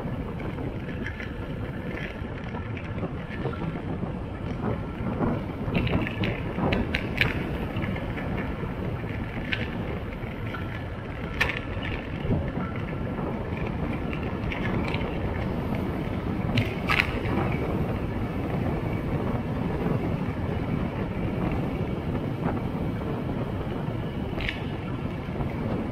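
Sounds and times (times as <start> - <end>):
vehicle road noise: 0.0 - 25.9
wind rushing over microphone: 0.0 - 25.9.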